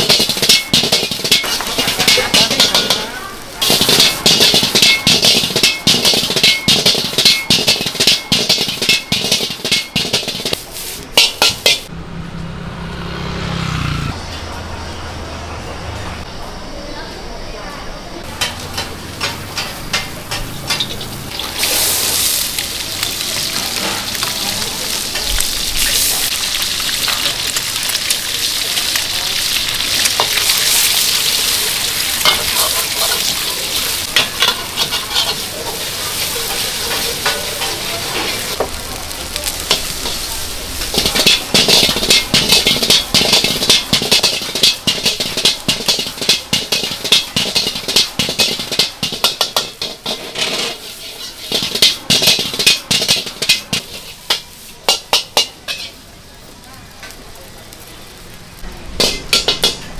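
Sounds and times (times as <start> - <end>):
fried rice sizzling in wok: 0.0 - 11.9, 17.9 - 59.9
spatula scraping and striking wok: 0.0 - 11.9, 18.2 - 56.1, 58.9 - 59.9.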